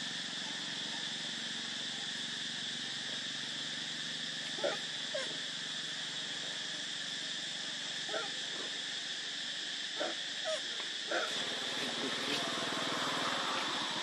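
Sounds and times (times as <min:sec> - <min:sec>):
high background hiss: 0:00.0 - 0:14.0.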